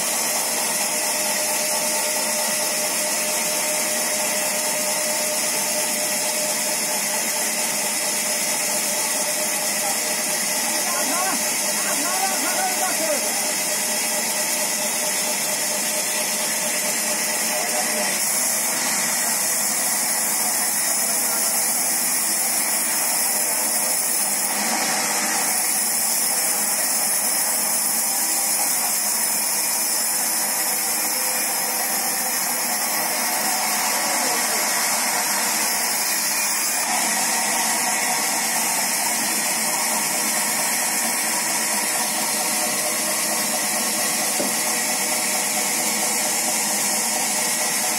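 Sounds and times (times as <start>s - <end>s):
band saw cutting log: 0.0s - 47.9s.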